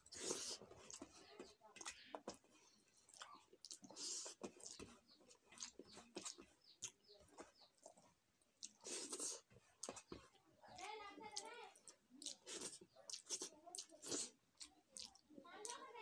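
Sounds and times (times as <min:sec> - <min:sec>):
fingers mixing rice on plate: 0:00.0 - 0:15.9
wet chewing: 0:00.0 - 0:16.0.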